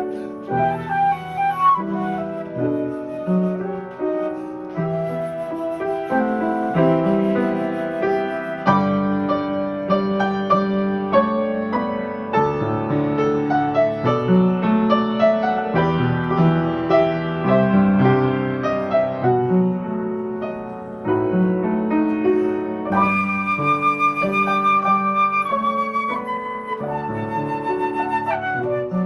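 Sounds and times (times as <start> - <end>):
piano melody over chords: 0.0 - 29.0.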